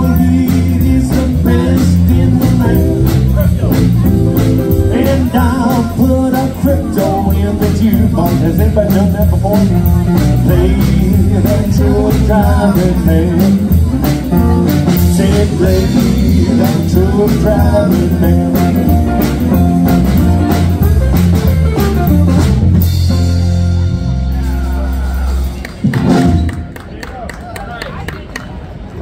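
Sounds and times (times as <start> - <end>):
acoustic guitar: 0.0 - 26.6
drum kit: 0.0 - 26.8
electric guitar: 0.0 - 26.8
bass guitar: 0.0 - 26.9
country band playing a song: 0.0 - 26.9.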